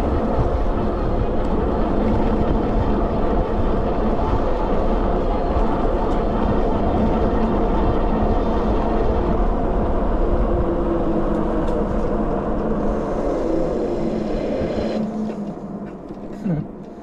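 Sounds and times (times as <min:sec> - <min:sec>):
wind and tyre noise: 0:00.0 - 0:17.0.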